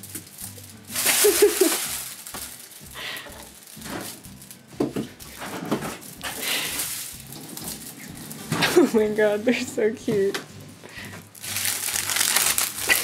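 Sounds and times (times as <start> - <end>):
plastic bags crinkling: 0.0 - 9.6, 10.9 - 13.0.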